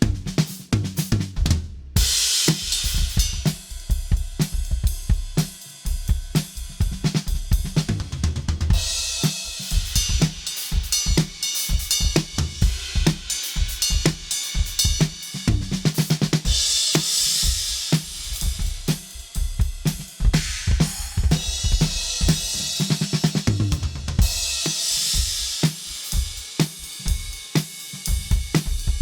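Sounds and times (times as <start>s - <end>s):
drum kit groove: 0.0s - 29.0s.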